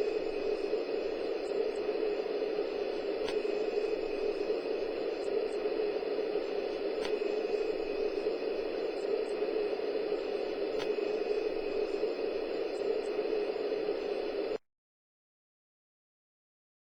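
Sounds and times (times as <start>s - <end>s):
airliner cabin engine rush: 0.0s - 14.6s
faint high whine: 0.0s - 14.6s.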